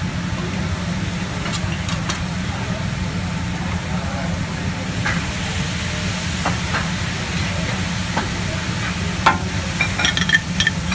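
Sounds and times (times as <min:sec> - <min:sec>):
liquid sizzling on hot griddle: 0:00.2 - 0:10.9.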